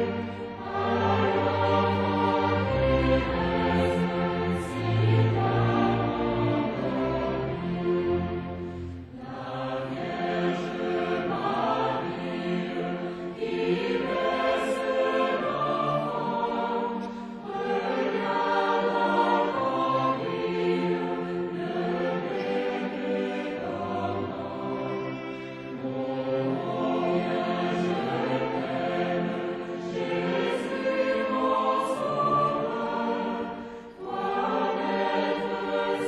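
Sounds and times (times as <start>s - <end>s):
choir singing: 0.0s - 36.0s
string orchestra: 0.0s - 36.0s.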